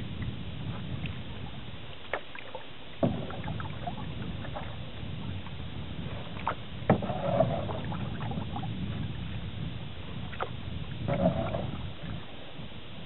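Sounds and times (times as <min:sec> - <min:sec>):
paddle splashing water: 0:00.0 - 0:13.0.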